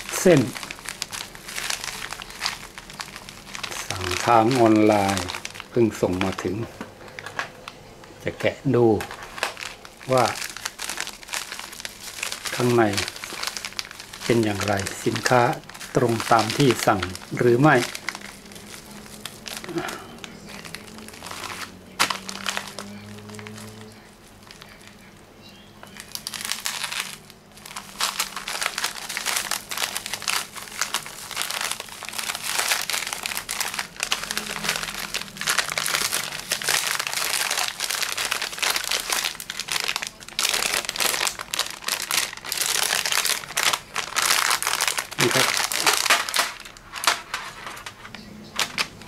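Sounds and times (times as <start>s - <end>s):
plastic crinkling: 0.0s - 49.0s.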